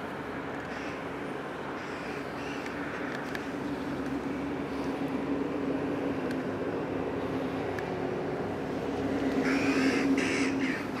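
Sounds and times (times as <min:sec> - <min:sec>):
steady engine drone: 0:00.0 - 0:11.0.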